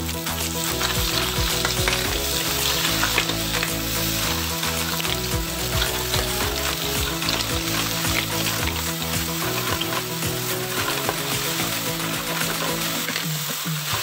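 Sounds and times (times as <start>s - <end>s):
paste sizzling in a wok: 0.0s - 14.0s.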